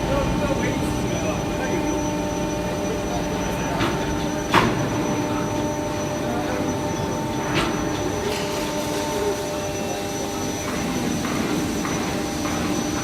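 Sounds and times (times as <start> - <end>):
hydraulic press humming: 0.0 - 13.0.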